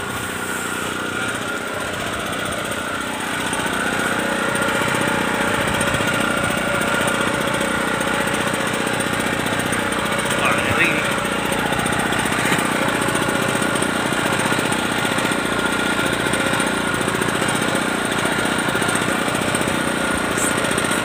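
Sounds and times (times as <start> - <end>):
small engine chugging: 0.0 - 21.0.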